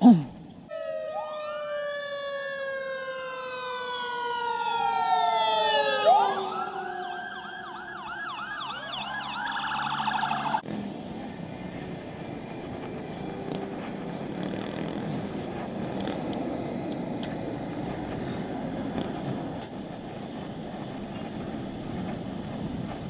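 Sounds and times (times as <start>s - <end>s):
emergency vehicle siren: 0.7s - 23.0s.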